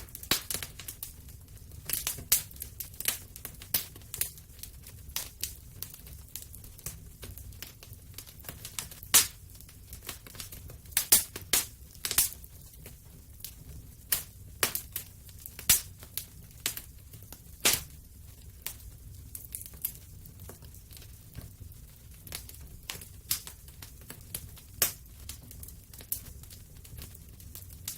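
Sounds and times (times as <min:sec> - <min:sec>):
fire snaps and pops: 0:00.0 - 0:27.9
wood fire crackling: 0:00.0 - 0:27.9.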